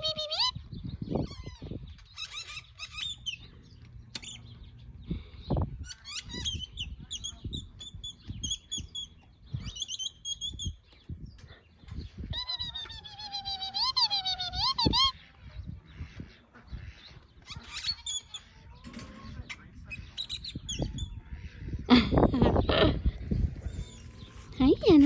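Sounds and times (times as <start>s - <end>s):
birds chirping and trilling: 0.0s - 25.0s.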